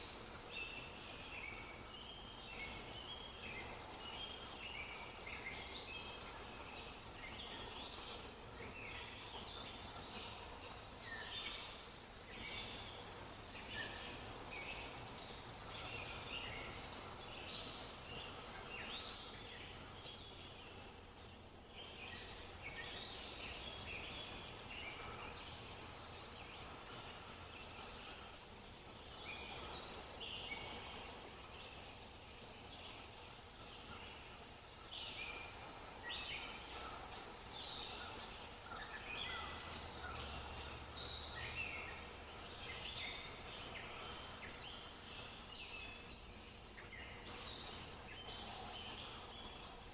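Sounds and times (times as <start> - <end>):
low steady hum: 0.0 - 49.9
small birds chirping: 0.0 - 49.9.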